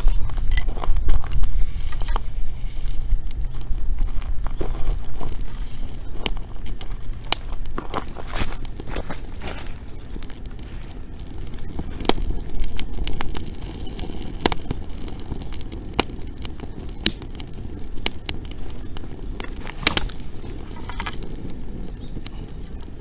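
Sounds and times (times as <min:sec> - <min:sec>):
bonfire crackling and popping: 0:00.0 - 0:23.0.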